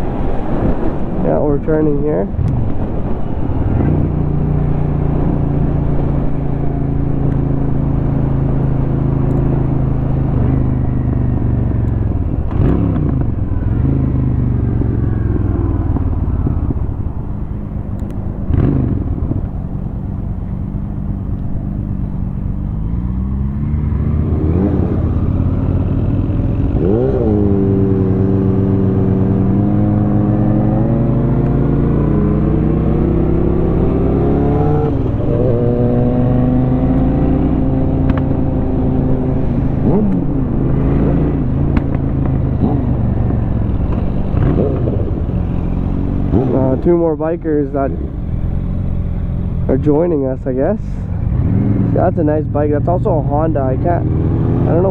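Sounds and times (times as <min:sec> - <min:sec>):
motorcycle engine running: 0:02.7 - 0:54.9.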